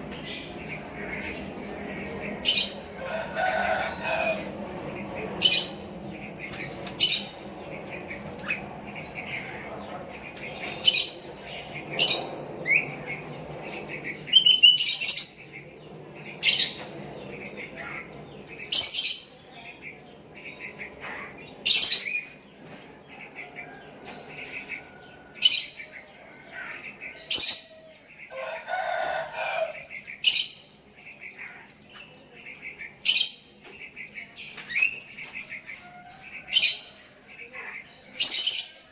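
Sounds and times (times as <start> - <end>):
bulbuls chirping calls: 0.0 - 38.9.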